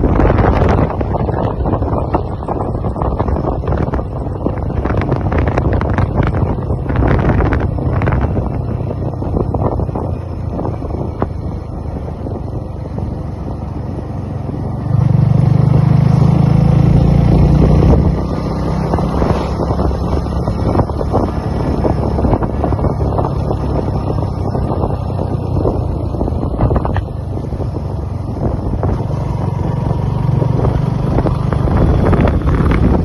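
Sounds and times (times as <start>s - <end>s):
motorcycle engine running: 0.0s - 33.0s
wind noise on microphone: 0.0s - 33.0s.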